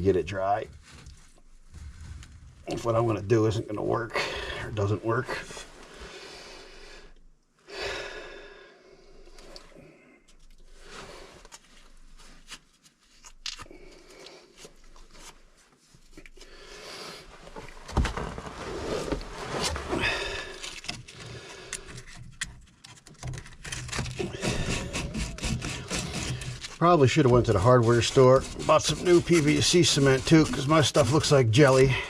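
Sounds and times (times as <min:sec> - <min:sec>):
hands and tools handling pipe: 0:00.0 - 0:04.0, 0:09.2 - 0:32.0.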